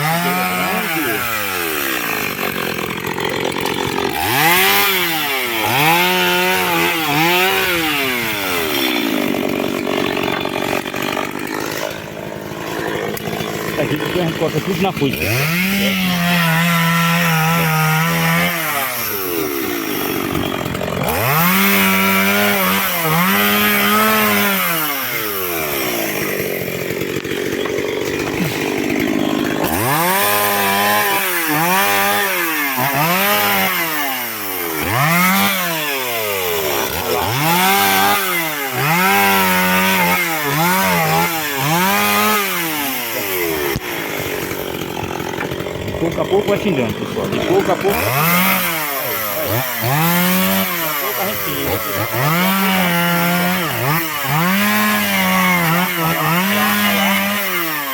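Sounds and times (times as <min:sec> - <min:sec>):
chainsaw cutting logs: 0:00.0 - 0:57.9.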